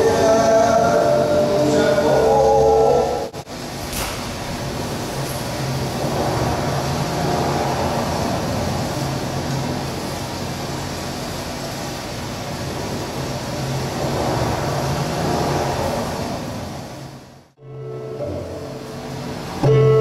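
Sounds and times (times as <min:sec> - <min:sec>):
recorded train rumble and hiss: 0:00.0 - 0:20.0.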